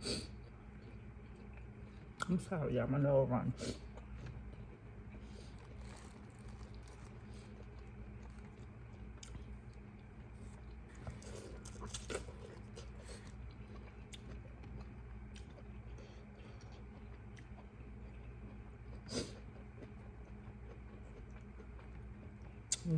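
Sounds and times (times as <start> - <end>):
steady low hum: 0.0 - 22.9
person chewing food: 0.2 - 2.3, 3.8 - 22.9.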